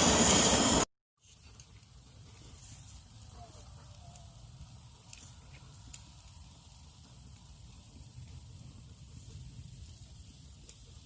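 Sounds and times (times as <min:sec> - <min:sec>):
crickets chirring: 0:00.1 - 0:11.0.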